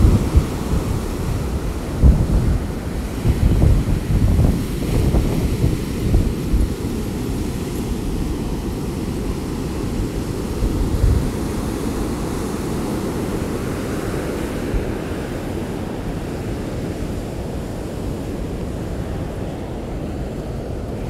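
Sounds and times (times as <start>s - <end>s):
surf breaking on beach: 0.0s - 21.0s
wind rumbling on microphone: 0.0s - 21.0s.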